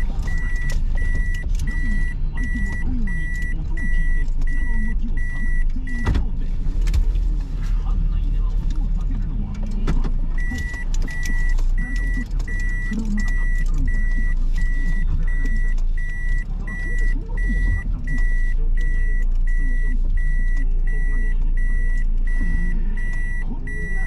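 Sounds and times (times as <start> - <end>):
reverse warning beeper: 0.0 - 6.2, 10.3 - 24.0
car engine idling: 0.0 - 24.0.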